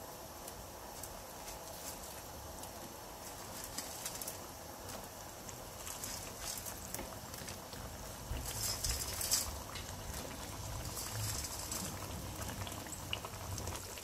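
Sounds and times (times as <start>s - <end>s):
gravy simmering in a pan: 0.0s - 14.0s.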